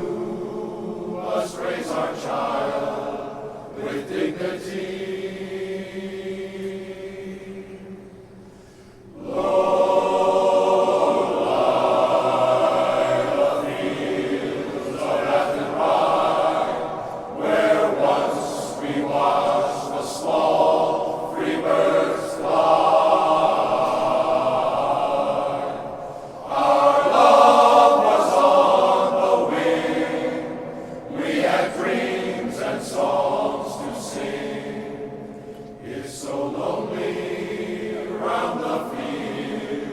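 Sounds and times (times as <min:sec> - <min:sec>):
male choir singing: 0:00.0 - 0:08.4, 0:09.1 - 0:39.9.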